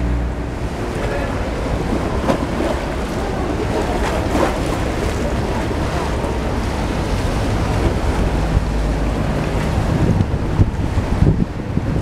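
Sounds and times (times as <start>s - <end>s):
boat engines rumbling: 0.0s - 12.0s
water sloshing: 0.0s - 12.0s
wind on microphone: 0.0s - 12.0s.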